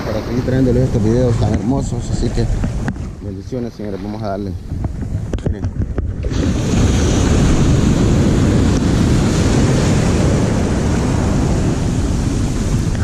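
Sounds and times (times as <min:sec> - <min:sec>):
ocean surf rushing over sand: 0:00.0 - 0:13.0
wind buffeting microphone: 0:00.0 - 0:13.0.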